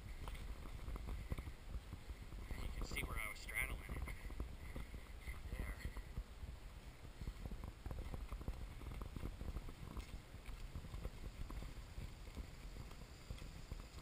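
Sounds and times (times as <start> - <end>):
footsteps on gravel trail: 0.0 - 14.0
low steady rumble: 0.0 - 14.0.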